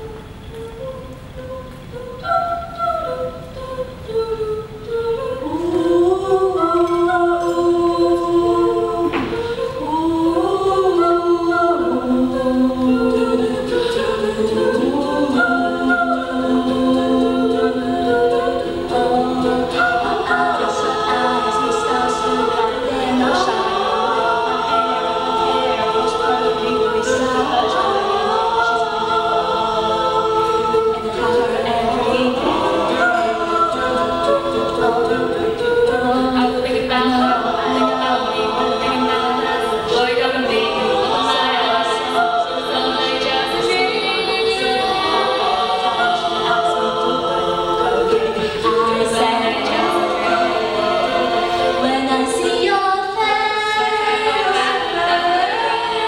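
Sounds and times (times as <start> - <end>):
a cappella choir singing: 0.0 - 56.0.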